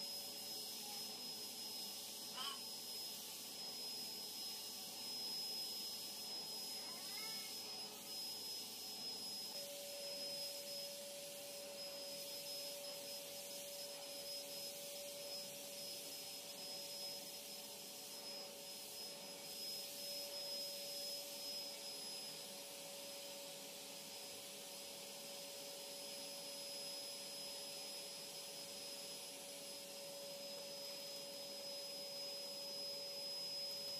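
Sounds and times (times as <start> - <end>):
vacuum cleaner hissing: 0.0 - 33.9
vacuum cleaner whine: 0.0 - 33.9.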